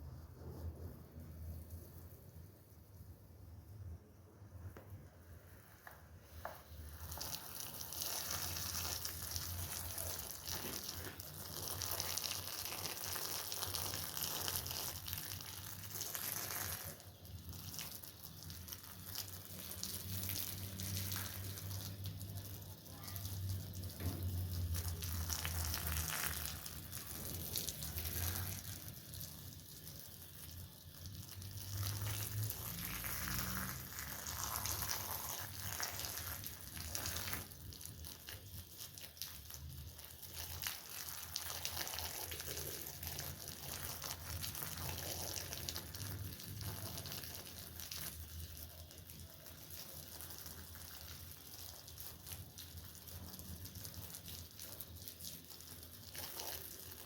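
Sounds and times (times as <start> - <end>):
soap foam crackling: 4.7 - 57.0.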